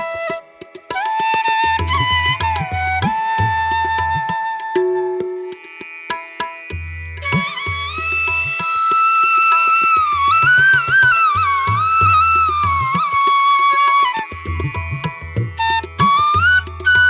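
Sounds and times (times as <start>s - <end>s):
flute melody: 0.0s - 5.6s, 7.2s - 17.0s.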